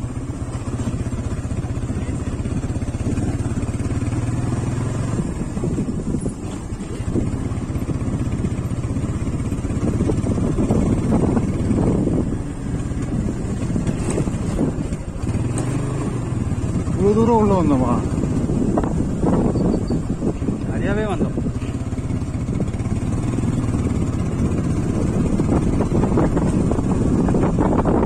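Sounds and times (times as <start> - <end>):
motorcycle engine riding: 0.0 - 28.0.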